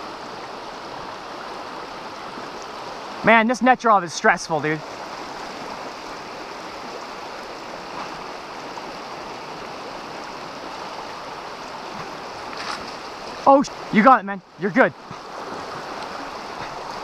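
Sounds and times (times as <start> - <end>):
creek rushing over cobbles: 0.0 - 17.0.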